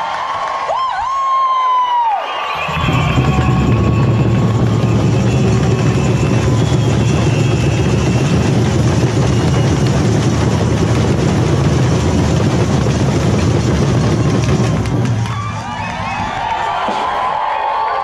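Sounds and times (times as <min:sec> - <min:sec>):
samba percussion band drumming: 0:02.6 - 0:17.1.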